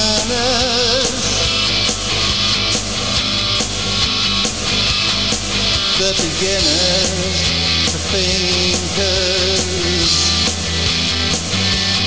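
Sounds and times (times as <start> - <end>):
rock song with guitar: 0.0 - 12.0.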